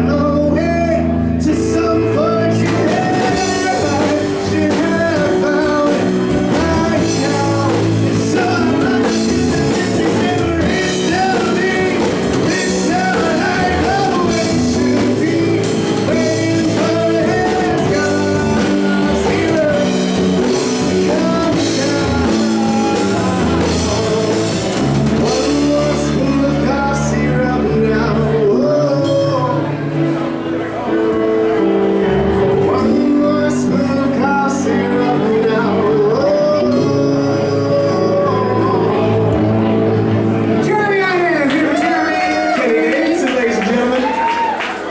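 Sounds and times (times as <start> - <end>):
person singing: 0.0 - 43.0
live rock band playing: 0.0 - 44.9.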